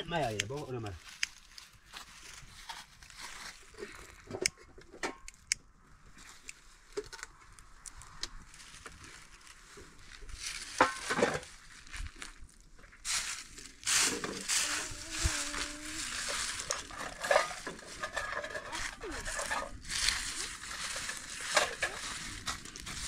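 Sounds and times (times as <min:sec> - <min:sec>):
dry leaves crinkling and rustling: 0:00.1 - 0:04.3, 0:06.1 - 0:23.0.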